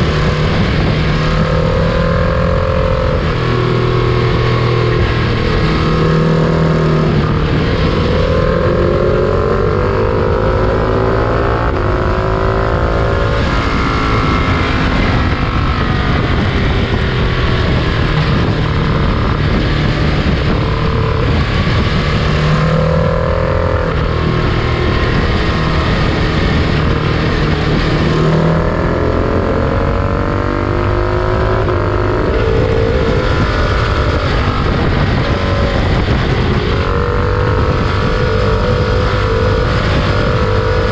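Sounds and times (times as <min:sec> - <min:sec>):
freight train rumbling: 0:00.0 - 0:40.9
sliding pitched tones: 0:00.0 - 0:40.9.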